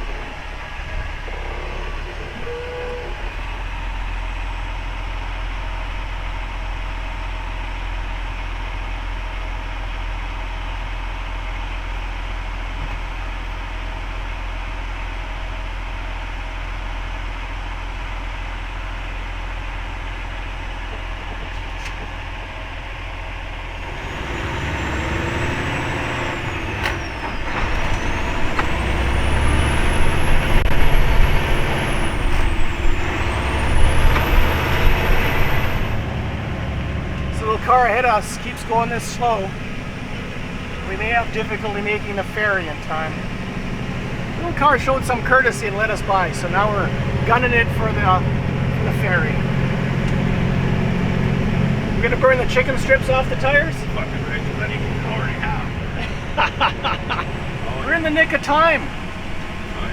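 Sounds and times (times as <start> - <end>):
diesel truck engine running: 0.0 - 59.9
road noise: 0.0 - 59.9.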